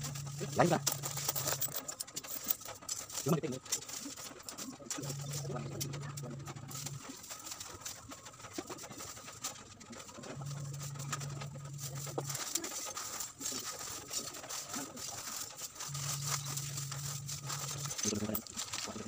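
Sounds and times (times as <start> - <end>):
low steady hum: 0.0 - 19.0
plastic bag rustling: 0.0 - 19.0.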